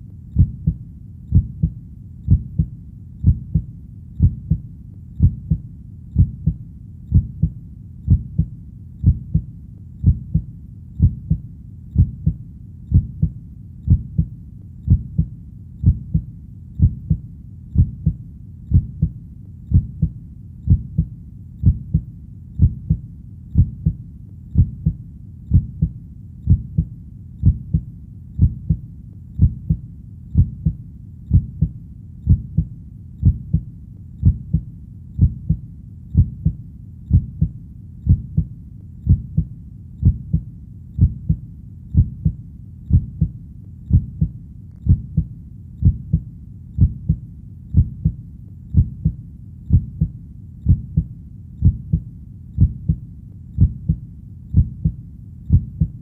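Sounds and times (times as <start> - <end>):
heartbeat thumps: 0.0 - 53.0, 53.6 - 56.0.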